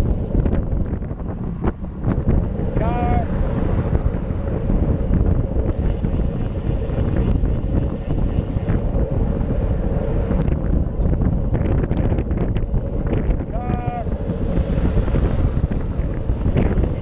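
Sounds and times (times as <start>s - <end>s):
wind rush over microphone: 0.0s - 17.0s.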